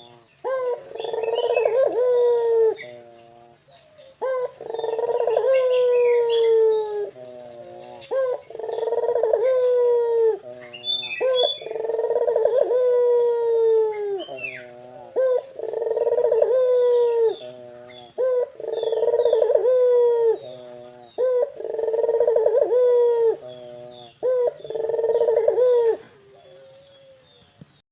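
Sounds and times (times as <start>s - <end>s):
dove cooing: 0.0s - 27.5s
small birds chirping: 0.0s - 27.8s.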